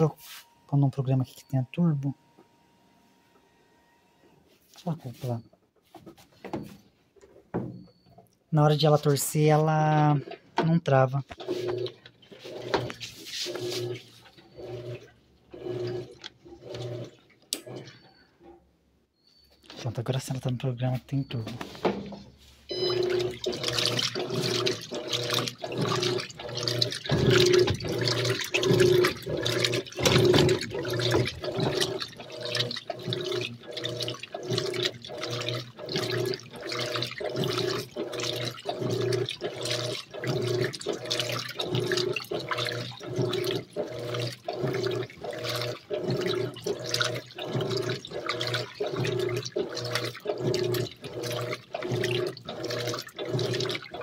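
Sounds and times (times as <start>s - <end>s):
washing machine motor reversing: 0.0s - 5.4s, 8.6s - 18.6s, 22.7s - 54.0s
clothes and water sloshing: 8.2s - 18.5s, 19.5s - 54.0s.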